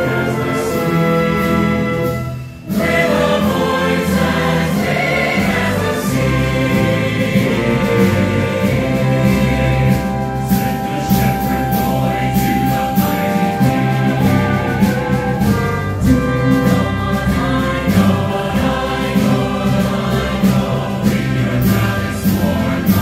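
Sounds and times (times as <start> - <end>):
full orchestra: 0.0 - 23.0
large choir singing: 0.0 - 23.0.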